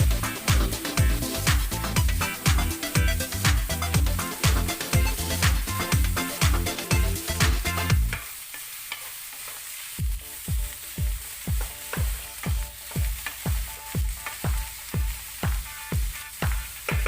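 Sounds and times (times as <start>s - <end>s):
electronic music: 0.0s - 8.2s, 10.0s - 17.0s
food sizzling in a pan: 0.0s - 17.0s.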